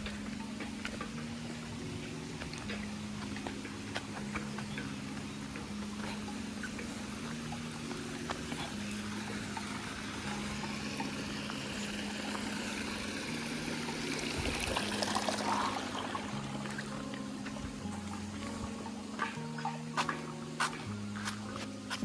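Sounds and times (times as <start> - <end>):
water trickling and pouring: 0.0 - 20.5.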